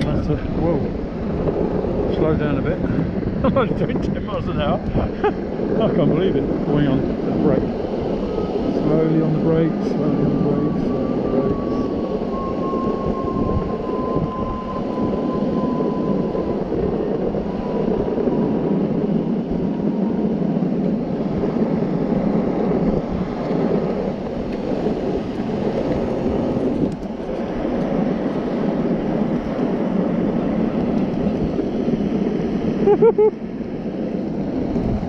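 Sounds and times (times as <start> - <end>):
skateboard wheels rumbling on asphalt: 0.0 - 35.0.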